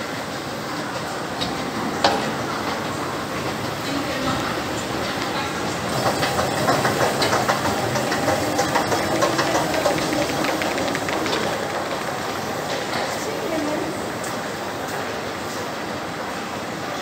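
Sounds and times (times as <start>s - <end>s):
escalator clattering: 0.9s - 14.5s.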